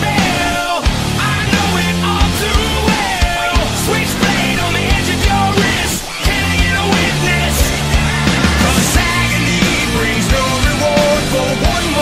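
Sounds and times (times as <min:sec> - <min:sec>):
hard rock music: 0:00.0 - 0:12.0.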